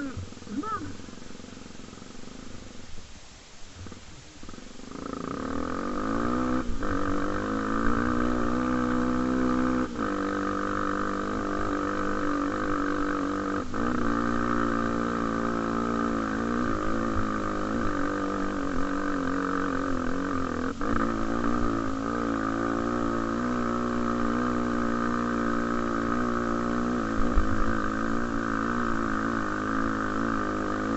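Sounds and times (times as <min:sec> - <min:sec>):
motorcycle engine running: 0:00.0 - 0:02.9, 0:03.8 - 0:30.9.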